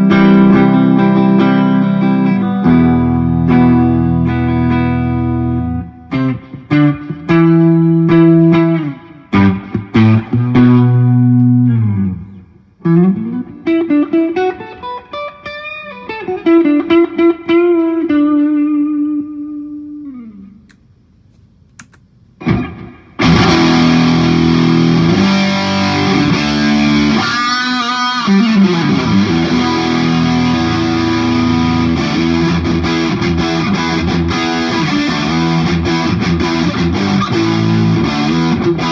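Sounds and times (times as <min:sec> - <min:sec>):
distorted guitar chords: 0:00.0 - 0:20.5, 0:22.4 - 0:38.9
clean electric guitar playing: 0:00.0 - 0:20.6, 0:22.4 - 0:38.9.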